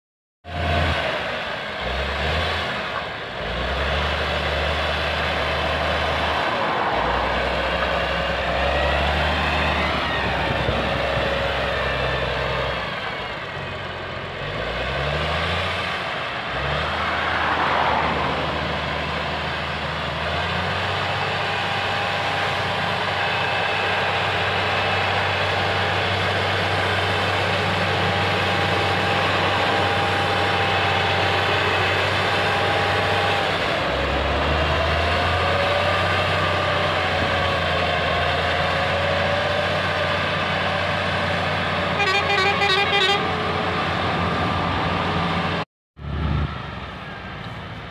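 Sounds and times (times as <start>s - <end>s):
diesel engine running: 0.4s - 47.9s.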